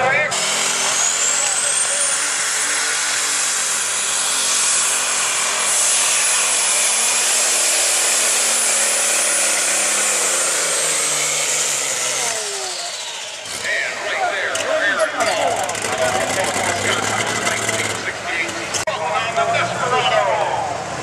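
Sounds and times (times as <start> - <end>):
tractor engine running under load: 0.2 - 18.9.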